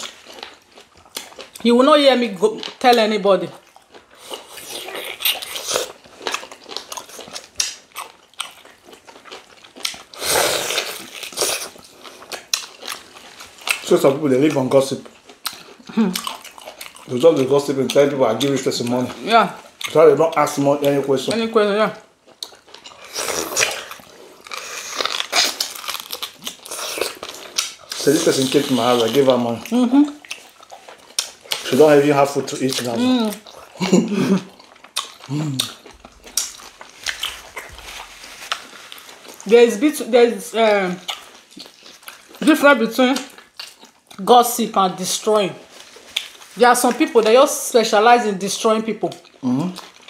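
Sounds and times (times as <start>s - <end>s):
biting and chewing food: 0.0s - 21.4s, 22.1s - 44.4s, 49.0s - 50.0s.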